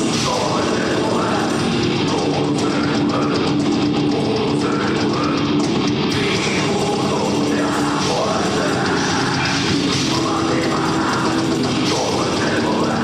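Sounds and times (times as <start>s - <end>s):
drums: 0.0s - 13.0s
electric guitars: 0.0s - 13.0s
heavy metal band playing live: 0.0s - 13.0s.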